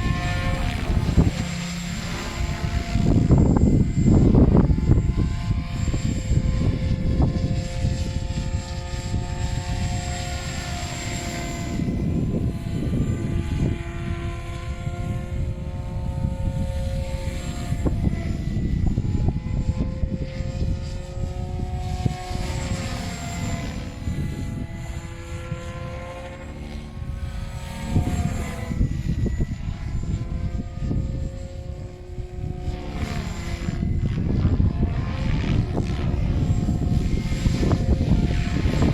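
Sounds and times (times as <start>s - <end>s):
gusty wind buffeting microphone: 0.0s - 38.9s
rc helicopter rotor and motor whine: 0.0s - 38.9s.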